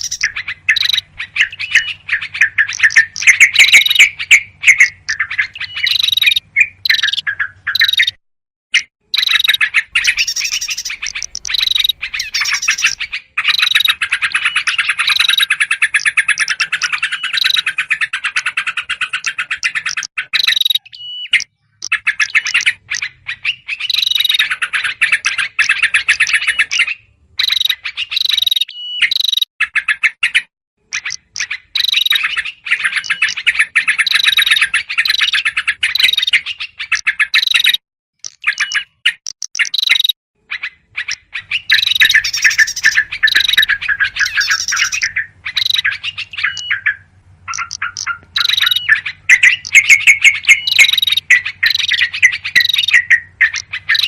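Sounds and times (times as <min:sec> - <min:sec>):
small bird calls: 0:00.0 - 0:54.0
songbird alarm chatter: 0:00.0 - 0:54.0.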